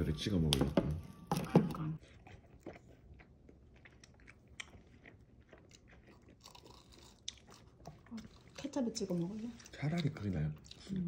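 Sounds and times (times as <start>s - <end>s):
faint chewing: 1.4s - 11.0s.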